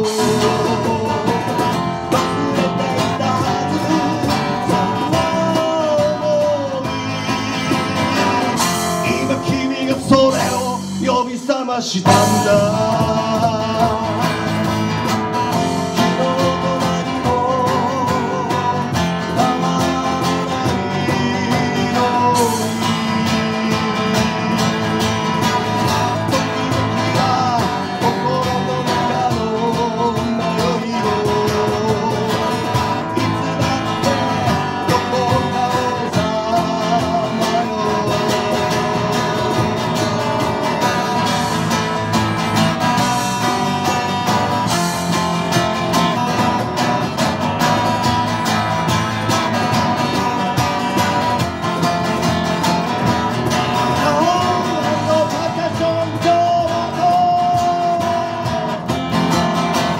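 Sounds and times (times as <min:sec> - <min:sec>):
electric bass: 0:00.0 - 0:11.2, 0:12.0 - 0:59.9
acoustic guitar strumming: 0:00.0 - 0:59.9.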